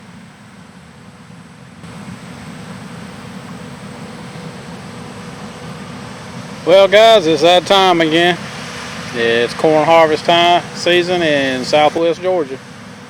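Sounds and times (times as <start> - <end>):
engine rumbling: 0.0 - 13.0
even hiss: 1.8 - 13.0.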